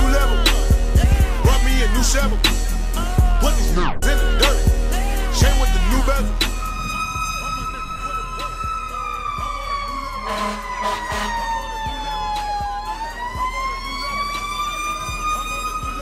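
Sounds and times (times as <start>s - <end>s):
fire truck siren wailing: 2.9s - 16.0s.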